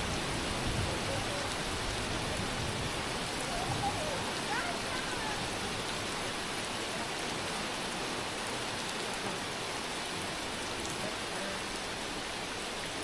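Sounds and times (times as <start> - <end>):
rain pattering on ground: 0.0 - 13.0.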